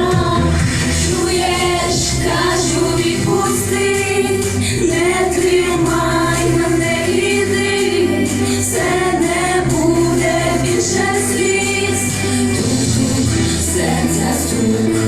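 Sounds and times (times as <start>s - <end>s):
instrumental accompaniment with bass line: 0.0s - 15.0s
vocal ensemble singing in harmony: 0.0s - 15.0s.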